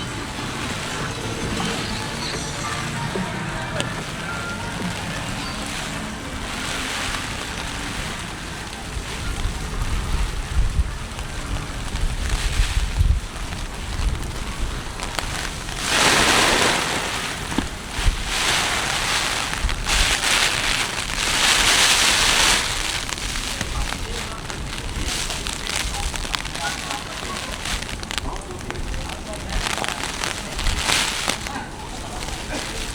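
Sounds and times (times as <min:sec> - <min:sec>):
gusting wind: 0:00.0 - 0:32.9
heavy rain: 0:00.0 - 0:32.9
wind rumble on microphone: 0:03.8 - 0:32.9.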